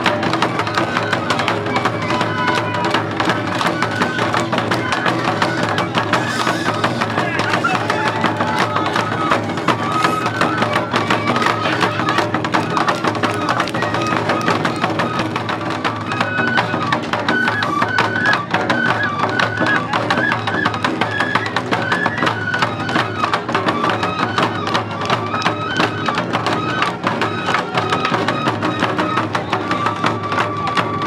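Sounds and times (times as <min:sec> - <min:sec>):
bamboo flute melody: 0:00.0 - 0:31.0
rapid drum beats: 0:00.0 - 0:31.0.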